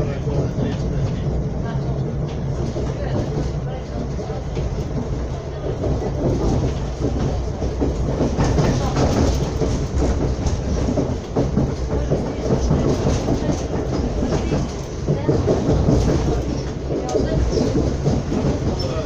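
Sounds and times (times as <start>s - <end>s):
train running rumble: 0.0s - 19.0s
wheels clattering over rails: 0.0s - 19.0s.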